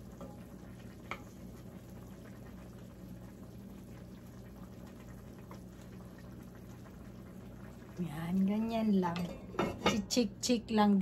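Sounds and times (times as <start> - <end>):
sauce bubbling in a pan: 0.0 - 10.4.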